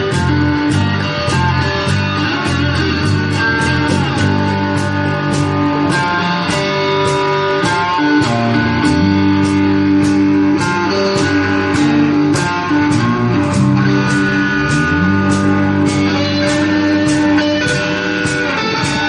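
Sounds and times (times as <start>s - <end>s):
drum hits: 0.0s - 19.0s
live blues-rock band: 0.0s - 19.0s
sustained guitar notes: 0.0s - 19.0s.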